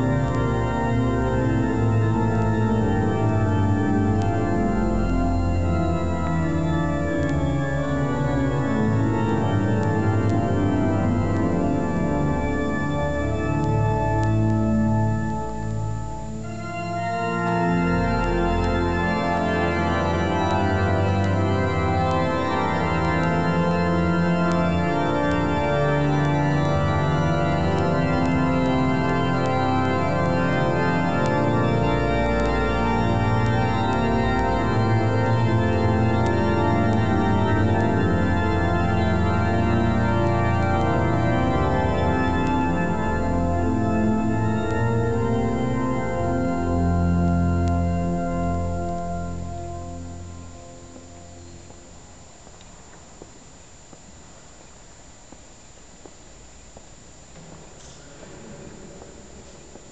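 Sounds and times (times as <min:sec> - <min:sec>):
organ music: 0:00.0 - 0:52.4.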